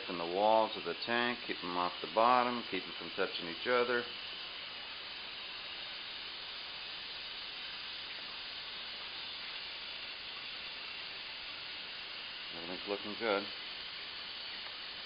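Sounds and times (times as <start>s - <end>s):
metal fizzing in hot solution: 0.0s - 15.0s.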